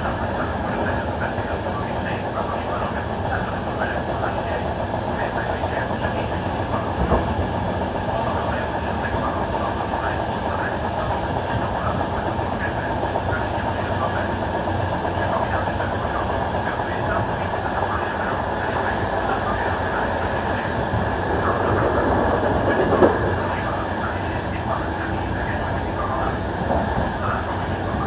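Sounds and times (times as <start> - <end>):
clickety-clack over rail joints: 0.0 - 28.0
train wheels rumbling on rails: 0.0 - 28.0.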